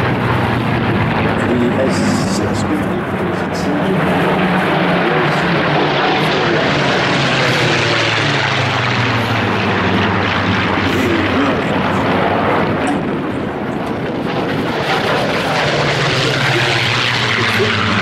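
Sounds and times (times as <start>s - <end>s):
propeller aircraft droning overhead: 0.0s - 18.0s.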